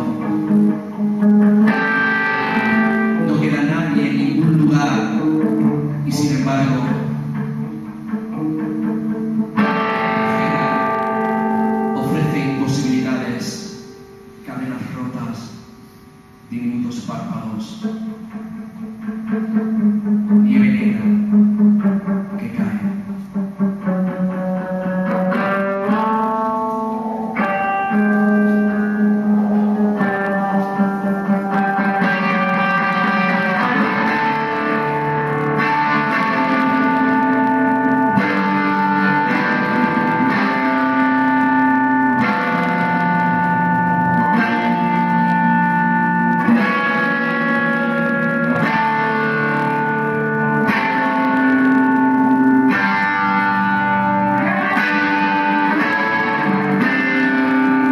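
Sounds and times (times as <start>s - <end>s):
electric guitar with effects: 0.0s - 57.9s.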